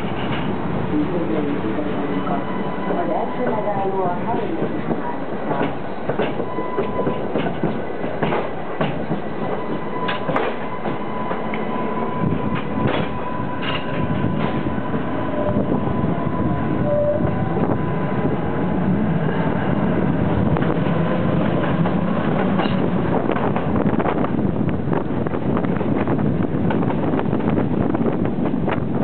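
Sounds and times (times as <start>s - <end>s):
tram wheels clicking over rail joints: 0.0s - 2.1s, 3.1s - 15.5s, 19.1s - 29.0s
tram rolling rumble: 0.0s - 29.0s.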